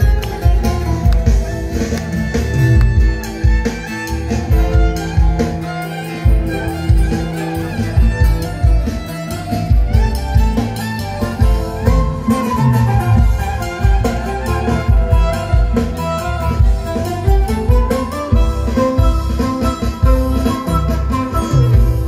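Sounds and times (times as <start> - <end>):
live instrumental band music: 0.0 - 22.0.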